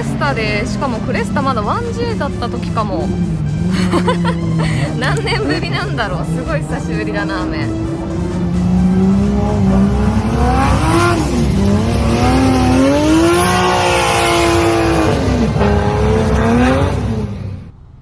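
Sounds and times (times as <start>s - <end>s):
car engine revving hard: 0.0s - 17.8s.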